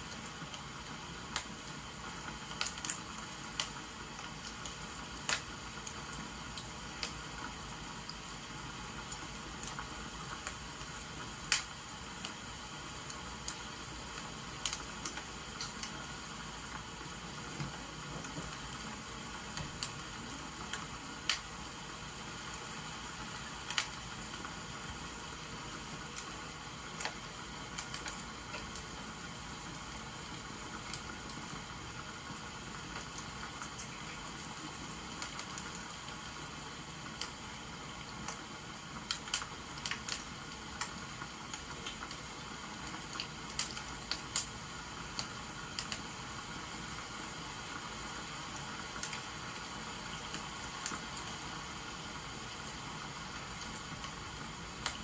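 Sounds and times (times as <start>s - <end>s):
rain hissing: 0.0s - 55.0s
wood fire crackling and popping: 0.0s - 55.0s.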